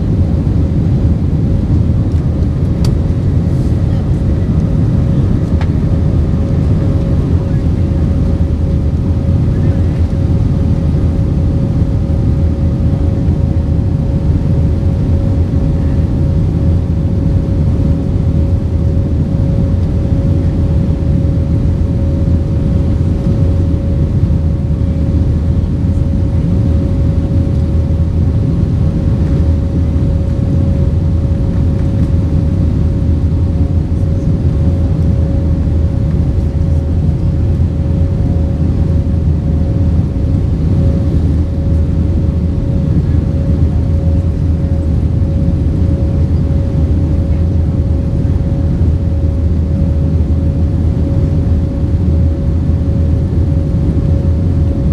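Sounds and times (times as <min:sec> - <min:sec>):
steady whining tone: 0:00.0 - 0:49.6
airplane cabin engine rumble: 0:00.0 - 0:54.9.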